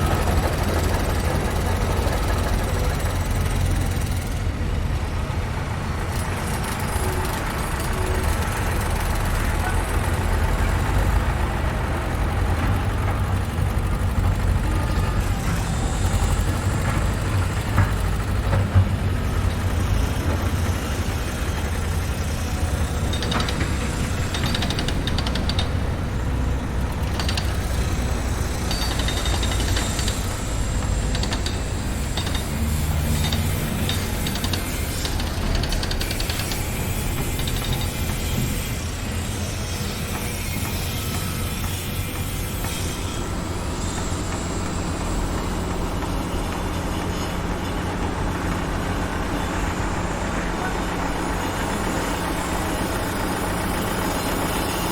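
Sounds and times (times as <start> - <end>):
heavy machinery engines rumbling: 0.0 - 54.9.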